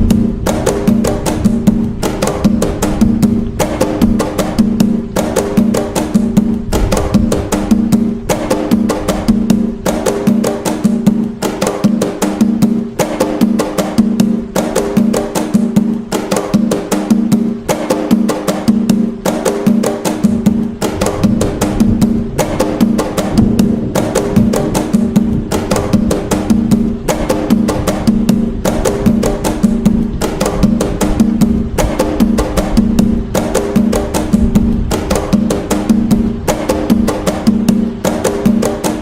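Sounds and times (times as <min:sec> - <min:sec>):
hand drums playing rhythm: 0:00.0 - 0:39.0.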